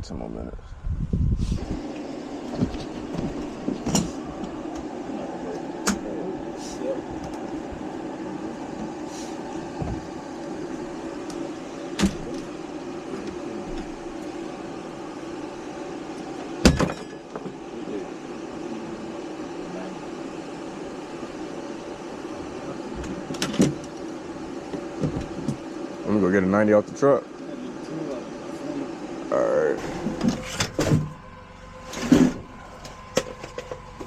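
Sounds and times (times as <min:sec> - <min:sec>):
vacuum pump running: 0:01.3 - 0:34.0.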